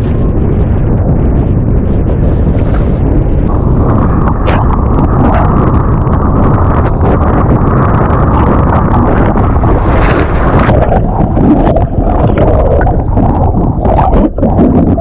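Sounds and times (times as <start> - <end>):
water noise: 0.0 - 15.0
wind buffeting microphone: 0.0 - 15.0.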